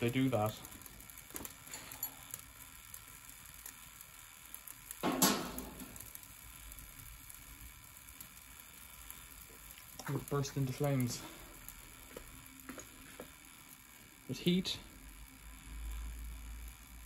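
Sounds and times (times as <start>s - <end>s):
toaster elements crackling and ticking: 0.0s - 17.0s.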